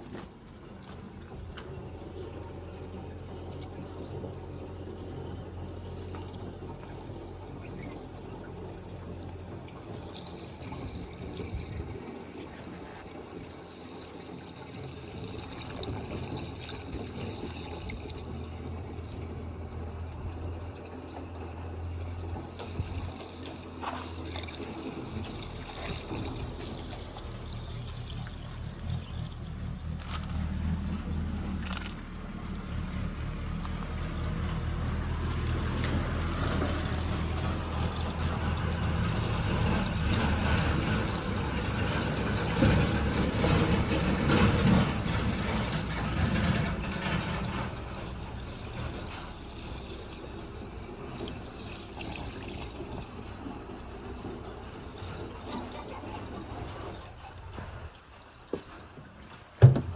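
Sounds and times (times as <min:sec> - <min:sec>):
diesel engine running: 0:00.0 - 0:58.8.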